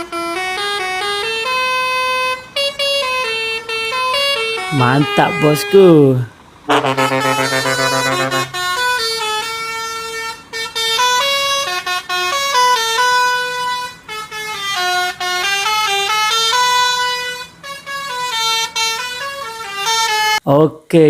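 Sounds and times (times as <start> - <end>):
multi-tone air horn melody: 0.0 - 20.4.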